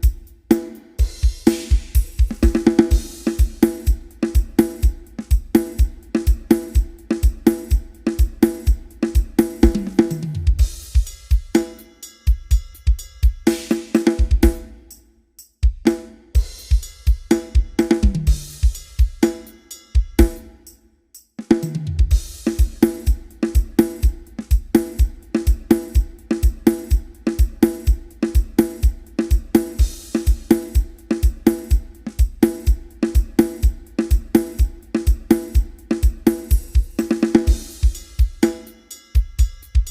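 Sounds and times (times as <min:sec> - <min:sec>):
drum kit playing a groove: 0:00.0 - 0:39.9.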